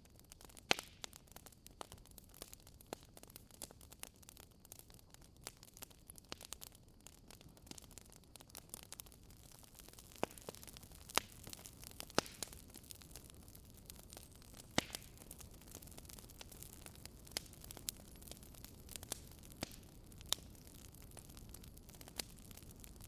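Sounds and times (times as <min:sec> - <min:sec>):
soft steady fire hiss: 0:00.0 - 0:23.0
wood fire crackling and popping: 0:00.0 - 0:23.0.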